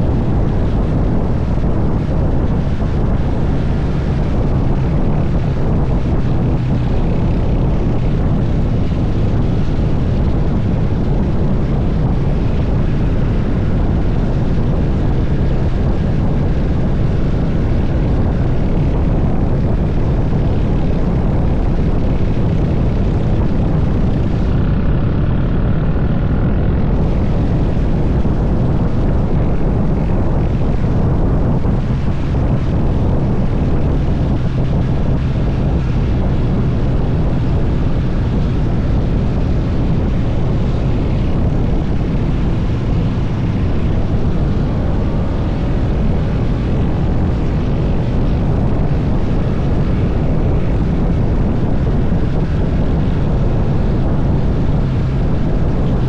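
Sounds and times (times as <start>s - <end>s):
motorcycle engine cruising: 0.0s - 56.0s
wind on microphone: 0.0s - 56.0s.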